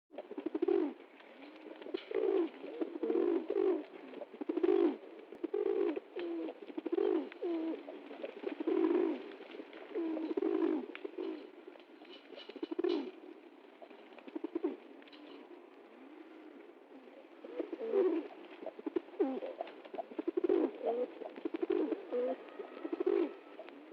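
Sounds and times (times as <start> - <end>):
pigeon cooing: 0.2 - 23.9.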